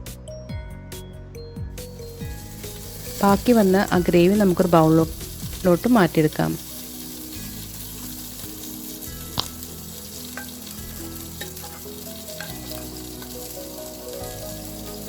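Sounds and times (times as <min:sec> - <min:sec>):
chicken sizzling in oil: 0:01.8 - 0:15.0
utensil clinking: 0:02.0 - 0:15.0.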